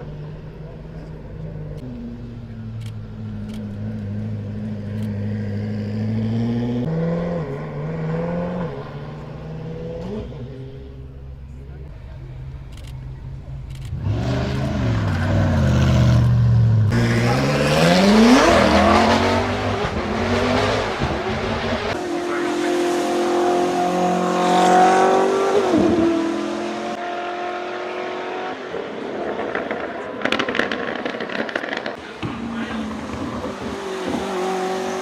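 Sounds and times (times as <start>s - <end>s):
car engine revving and accelerating: 0.0s - 11.3s, 13.7s - 35.0s.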